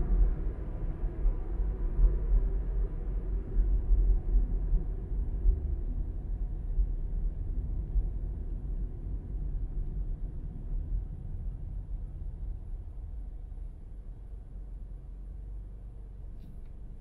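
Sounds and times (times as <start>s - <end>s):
car engine rumble: 0.0s - 17.0s.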